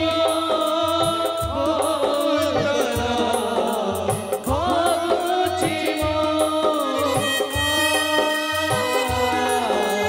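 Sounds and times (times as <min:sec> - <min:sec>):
drum beat: 0:00.0 - 0:10.0
person singing: 0:00.0 - 0:10.0.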